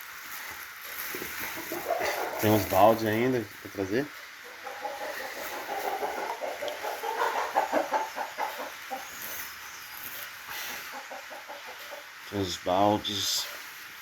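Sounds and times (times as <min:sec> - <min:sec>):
chickens clucking: 0:00.3 - 0:14.0.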